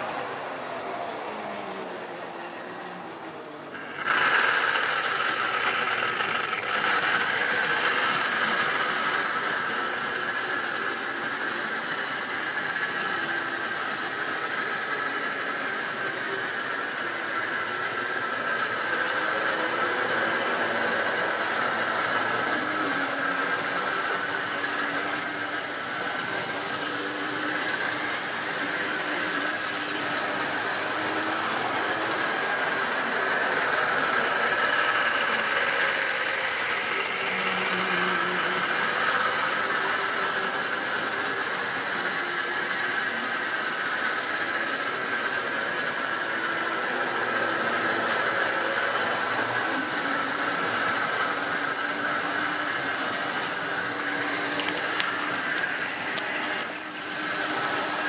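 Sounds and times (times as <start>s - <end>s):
small electric motor whining: 0.0s - 58.0s
wheels rattling on track: 0.0s - 58.0s.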